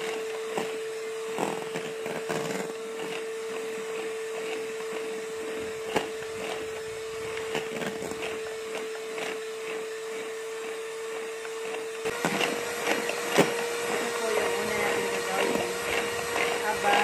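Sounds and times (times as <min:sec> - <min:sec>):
electric hand mixer whining: 0:00.0 - 0:17.0.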